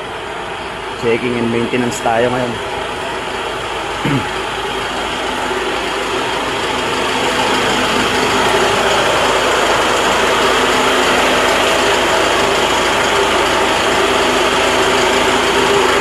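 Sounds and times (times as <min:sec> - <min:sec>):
refrigeration unit drone: 0:00.0 - 0:16.0.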